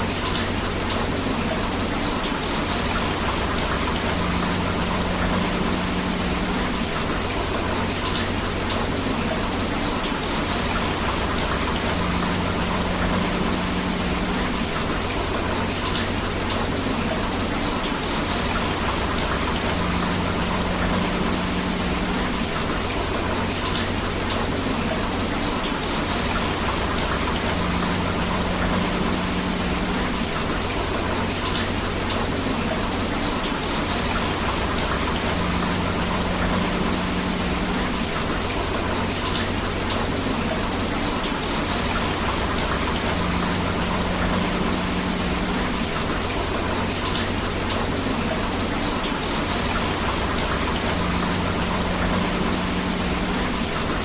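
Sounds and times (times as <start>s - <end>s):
rushing river water: 0.0s - 54.0s
steady rain: 0.0s - 54.0s.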